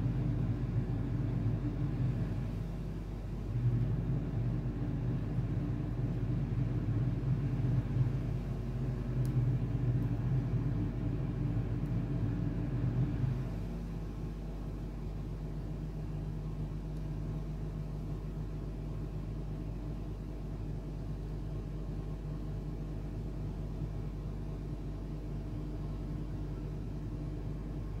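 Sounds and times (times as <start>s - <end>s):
low rumble with faint hum: 0.0s - 28.0s.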